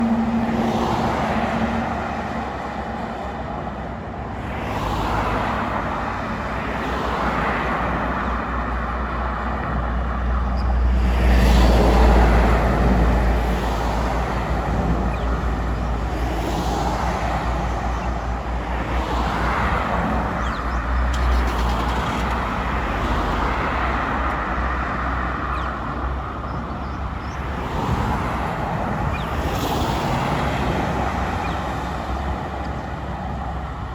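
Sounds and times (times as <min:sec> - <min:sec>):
vehicles passing by: 0:00.0 - 0:33.9.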